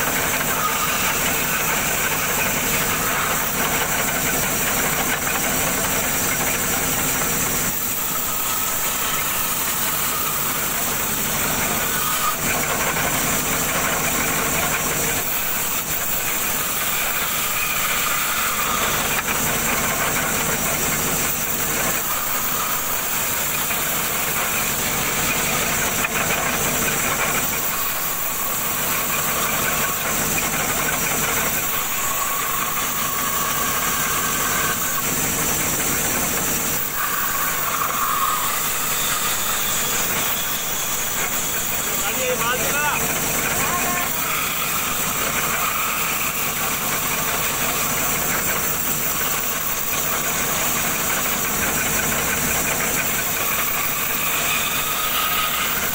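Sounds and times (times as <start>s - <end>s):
band saw cutting wood: 0.0s - 55.9s.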